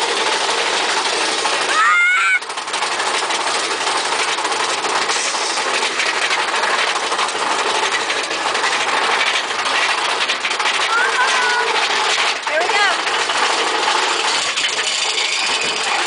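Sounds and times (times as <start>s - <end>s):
roller coaster rumble and rattle: 0.0s - 16.0s.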